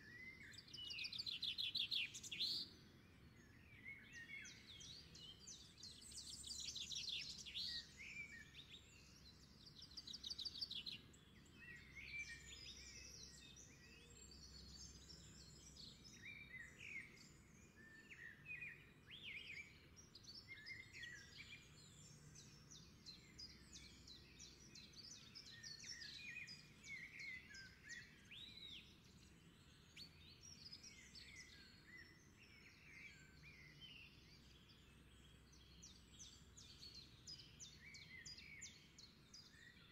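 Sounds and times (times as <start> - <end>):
birds chirping and singing: 0.1 - 39.9.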